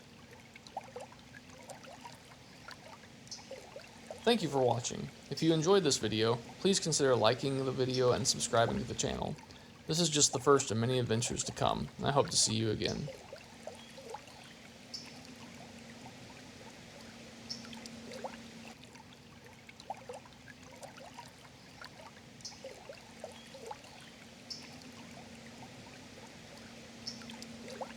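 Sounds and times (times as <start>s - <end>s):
faint low hum: 0.0s - 27.9s
stream trickling and gurgling: 0.0s - 27.9s.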